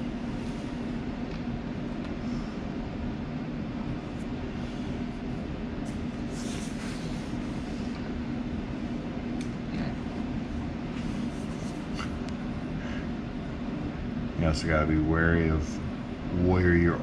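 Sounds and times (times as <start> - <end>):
projector cooling fan hum: 0.0 - 17.0.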